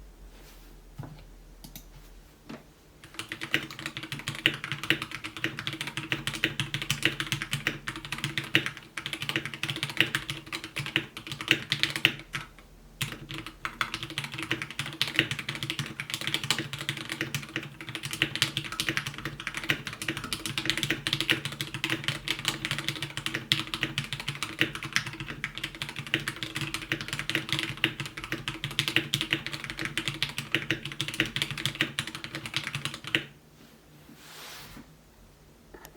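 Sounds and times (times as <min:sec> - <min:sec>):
fast typing on mechanical keyboard: 0:03.0 - 0:33.3.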